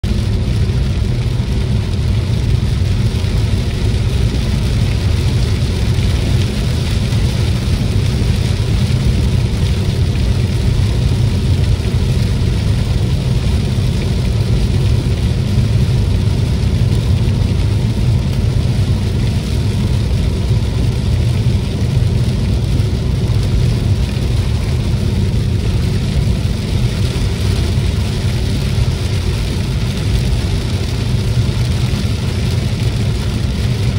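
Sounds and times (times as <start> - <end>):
car road and engine rumble: 0.0 - 33.9
rain and tyres hissing: 0.0 - 33.9.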